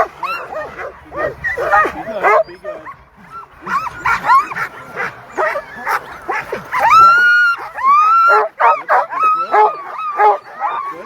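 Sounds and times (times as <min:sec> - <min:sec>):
dog yelps: 0:00.0 - 0:11.0
sled dogs barking and yipping: 0:00.0 - 0:11.0.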